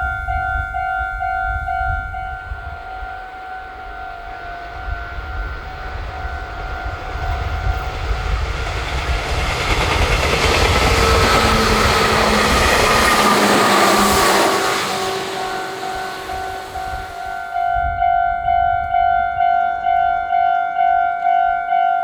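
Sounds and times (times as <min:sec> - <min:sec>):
train passing: 0:00.0 - 0:21.9.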